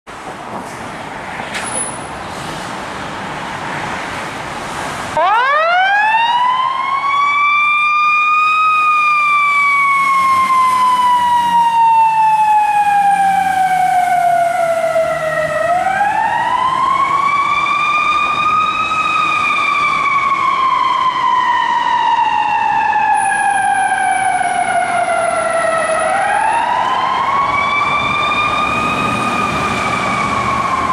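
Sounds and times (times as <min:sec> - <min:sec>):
street traffic: 0:00.0 - 0:30.9
fire engine siren wailing: 0:05.1 - 0:30.9.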